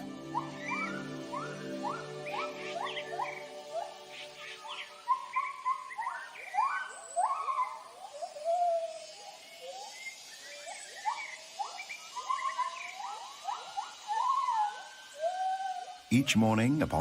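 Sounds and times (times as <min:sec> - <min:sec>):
gibbons whooping hoots: 0:00.0 - 0:16.8.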